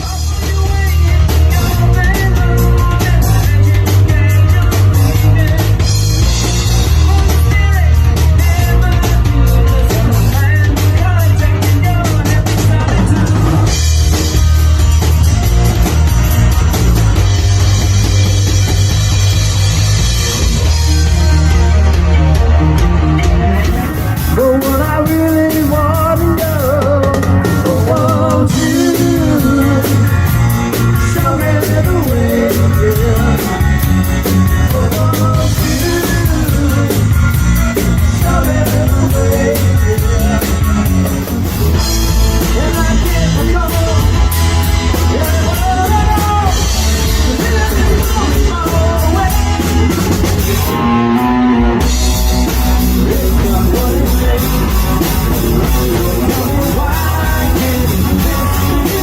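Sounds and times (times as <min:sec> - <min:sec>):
person singing: 0:00.0 - 0:14.4, 0:20.6 - 0:59.0
bass: 0:00.0 - 0:59.0
drum kit: 0:00.0 - 0:59.0
electric guitar: 0:00.0 - 0:59.0.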